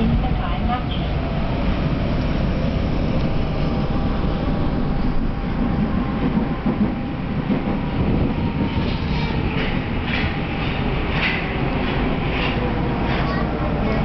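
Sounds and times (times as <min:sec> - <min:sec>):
subway train wheels rumbling on rails: 0:00.0 - 0:14.0.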